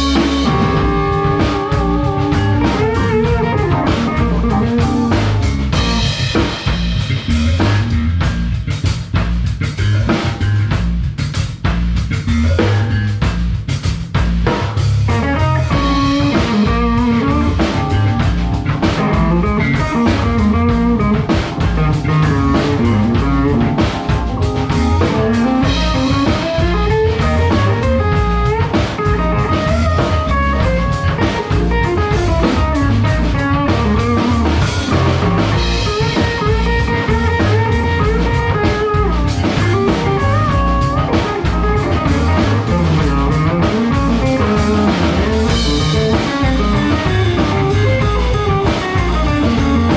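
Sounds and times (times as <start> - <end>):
electric guitar: 0.0 - 10.8, 14.5 - 49.9
drum kit: 0.0 - 49.9
electric bass: 0.0 - 49.9.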